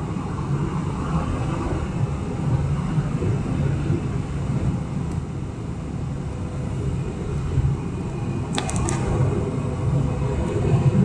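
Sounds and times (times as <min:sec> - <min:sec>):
airplane cabin engine roar: 0:00.0 - 0:11.0.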